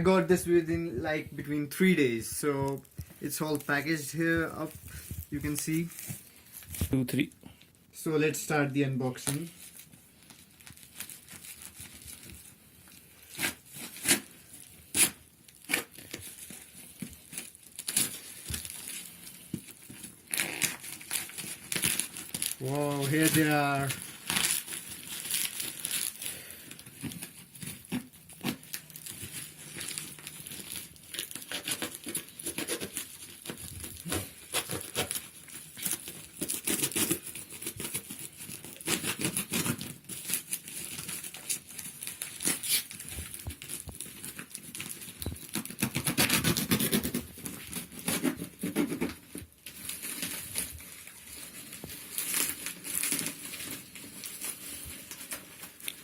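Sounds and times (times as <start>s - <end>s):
plastic packaging crinkling: 0.0s - 7.8s, 9.0s - 56.0s
plastic tearing: 0.4s - 7.6s, 9.1s - 56.0s.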